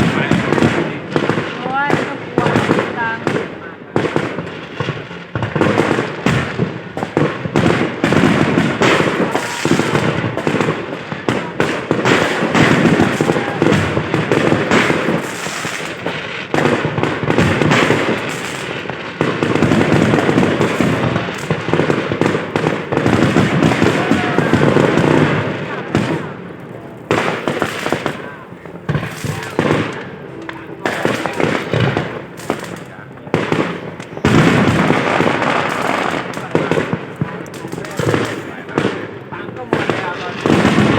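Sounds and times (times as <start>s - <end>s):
fireworks bursting with bangs: 0.0s - 40.9s.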